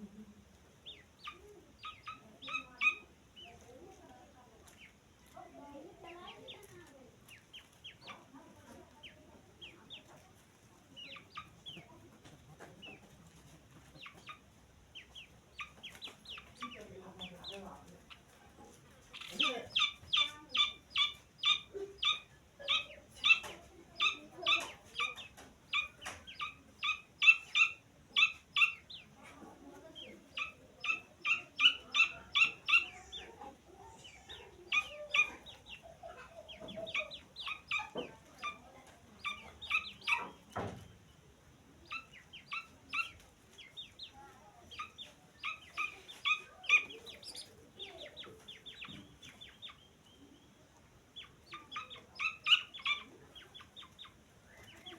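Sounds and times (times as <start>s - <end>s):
bird chick peeping: 0.0s - 54.9s.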